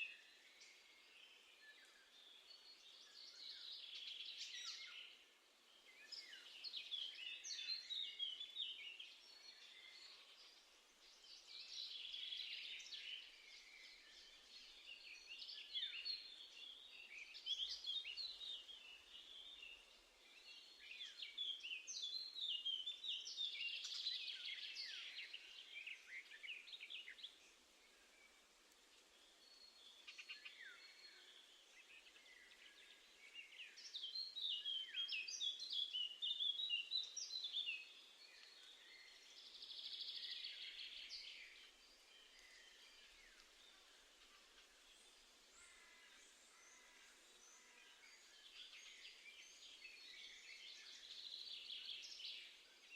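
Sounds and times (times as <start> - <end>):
songbirds twittering: 0.0 - 52.9.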